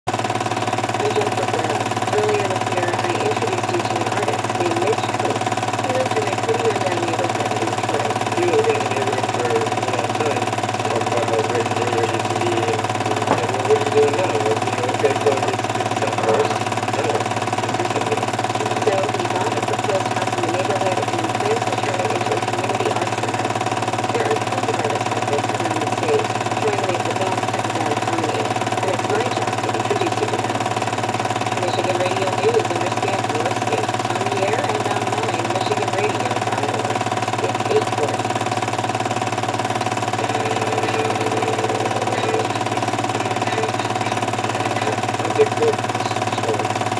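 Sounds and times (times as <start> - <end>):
film projector motor whirring: 0.1 - 46.9.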